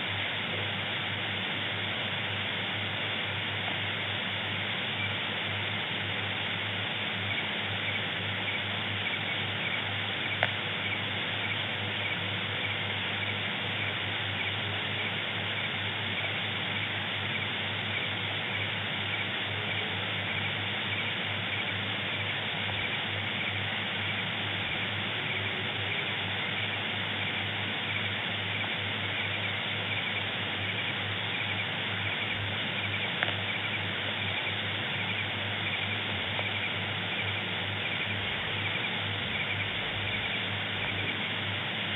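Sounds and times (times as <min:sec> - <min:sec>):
rapid faint chirping: 0:00.0 - 0:41.9
steady hiss with low hum: 0:00.0 - 0:41.9.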